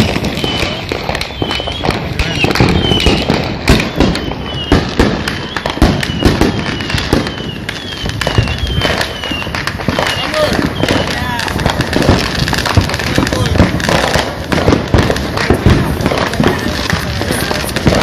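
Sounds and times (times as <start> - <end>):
fireworks popping and banging: 0.0 - 18.0
high firework whistle: 0.0 - 18.0.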